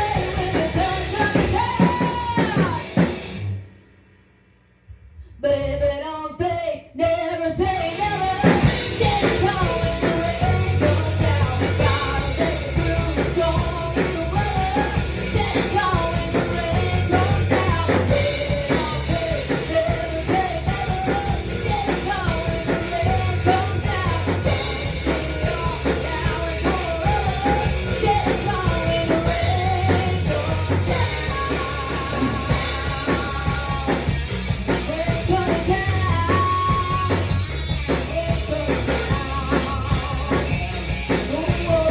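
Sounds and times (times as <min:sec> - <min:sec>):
person singing: 0:00.0 - 0:03.0, 0:05.3 - 0:41.9
bass line: 0:00.0 - 0:03.8, 0:07.6 - 0:41.9
drum kit: 0:00.0 - 0:05.3, 0:07.6 - 0:41.9.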